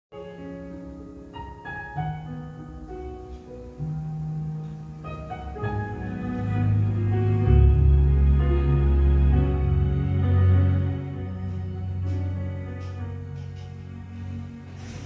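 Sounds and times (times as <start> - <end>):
slow soft piano music: 0.1 - 15.0.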